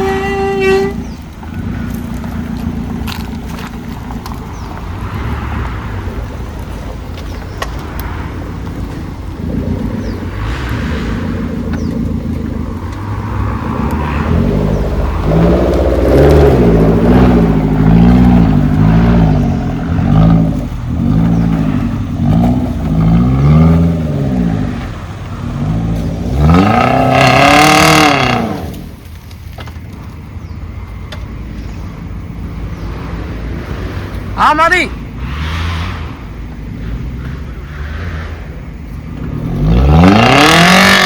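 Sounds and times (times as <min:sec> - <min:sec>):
off-road engine revving: 0:00.0 - 0:29.1, 0:31.6 - 0:41.0.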